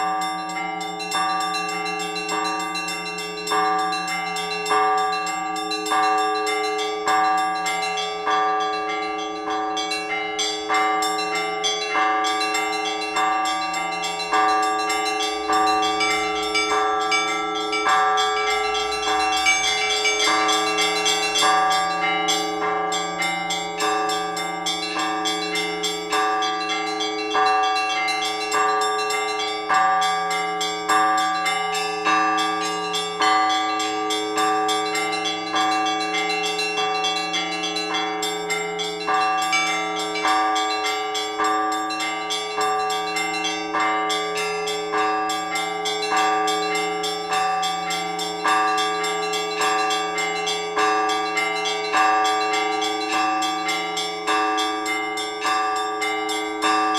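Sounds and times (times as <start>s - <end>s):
church bells pealing: 0.0s - 56.9s.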